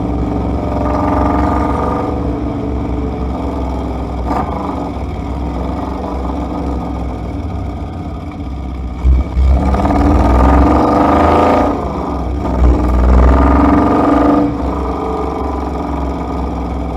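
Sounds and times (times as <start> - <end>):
vehicle engine low rumble: 0.0 - 16.9.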